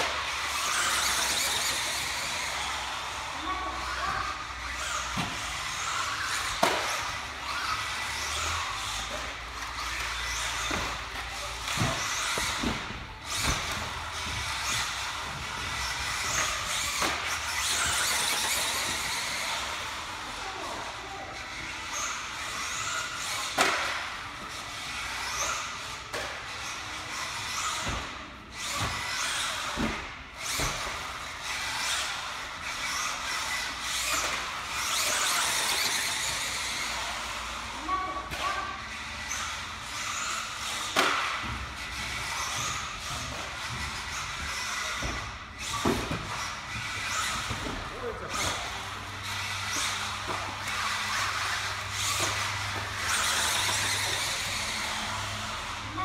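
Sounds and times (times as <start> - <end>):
rc car motor whine: 0.0 - 56.0.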